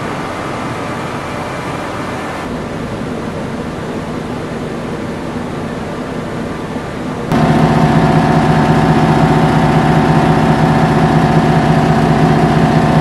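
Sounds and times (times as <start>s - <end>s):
chiller unit diesel engine drone: 0.0s - 13.0s.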